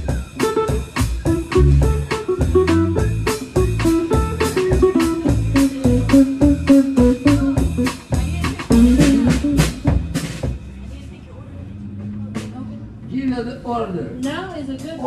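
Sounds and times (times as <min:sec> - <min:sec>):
live band playing: 0:00.0 - 0:10.9, 0:11.7 - 0:13.1.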